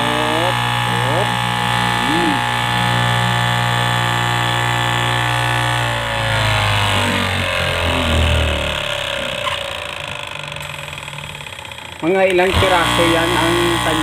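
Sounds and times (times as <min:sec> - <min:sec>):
cloth cutting machine whining: 0:00.0 - 0:14.0.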